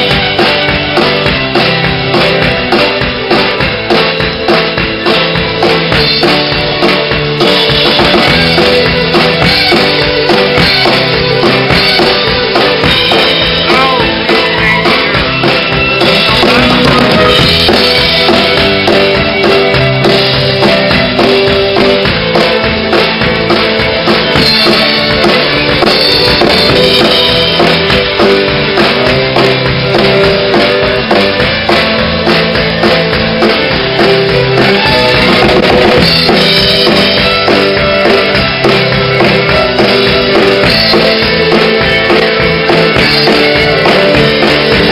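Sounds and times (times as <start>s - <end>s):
drums with steady beat: 0.0s - 44.9s
amplified fiddle playing: 6.6s - 44.9s.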